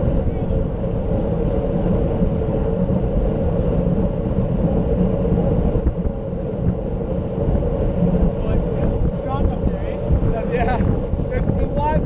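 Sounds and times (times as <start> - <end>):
bike tyres rumbling on asphalt: 0.0 - 12.0
wind buffeting microphone: 0.0 - 12.0.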